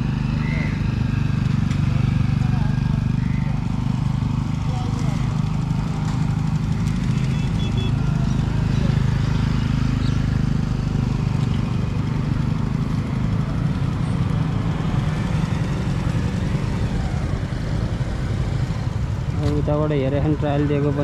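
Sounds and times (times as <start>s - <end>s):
motorcycle engines idling: 0.0s - 21.0s.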